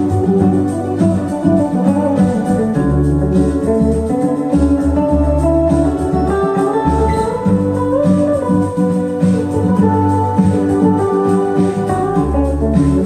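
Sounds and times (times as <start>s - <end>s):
deep bass notes: 0.0s - 13.0s
guitar: 0.0s - 13.0s
music over loudspeakers: 0.0s - 13.0s.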